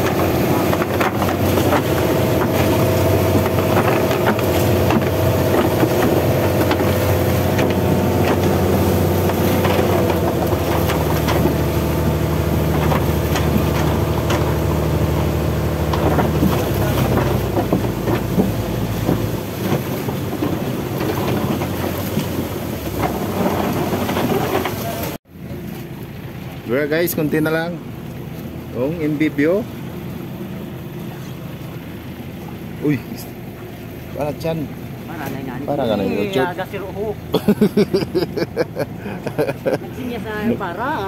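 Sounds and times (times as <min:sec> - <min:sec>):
boat engine running: 0:00.0 - 0:41.0
rushing water: 0:00.0 - 0:41.0
wind: 0:00.0 - 0:41.0.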